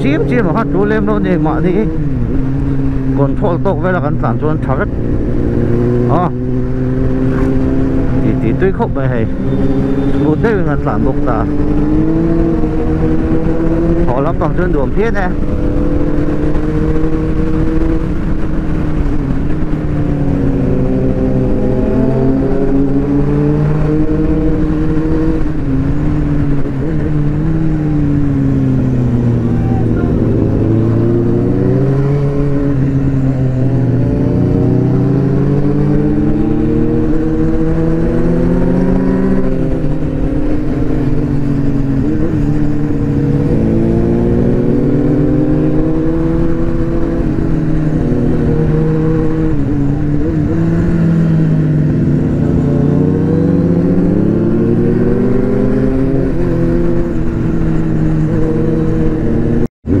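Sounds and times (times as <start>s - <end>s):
motorcycle engine revving: 0.0s - 60.0s
wind on helmet microphone: 4.1s - 60.0s.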